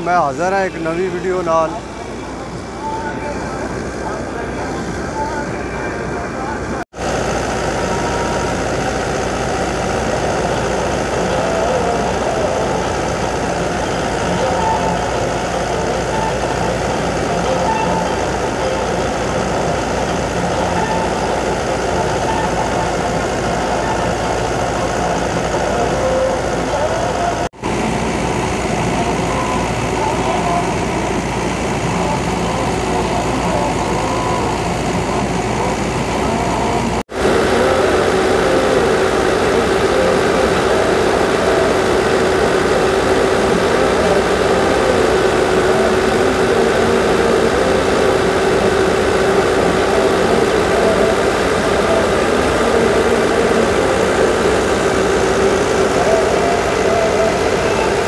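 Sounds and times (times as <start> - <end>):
steady hum: 0.0 - 58.0
thresher machinery: 0.0 - 58.0
tractor diesel engine under load: 0.0 - 58.0.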